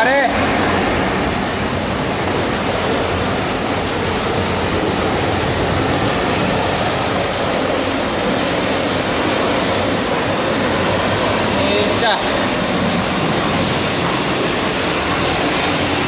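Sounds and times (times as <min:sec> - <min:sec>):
water rushing over a spillway: 0:00.0 - 0:16.0.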